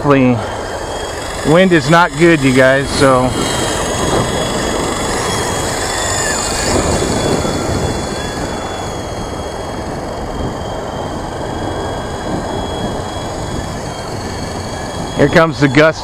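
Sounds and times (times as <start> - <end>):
rc helicopter motor whine: 0.0 - 16.0
wind buffeting microphone: 0.0 - 16.0.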